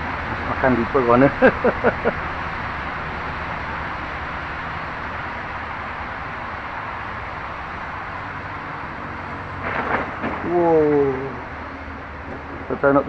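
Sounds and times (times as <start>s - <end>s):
steady rainfall: 0.0s - 13.0s.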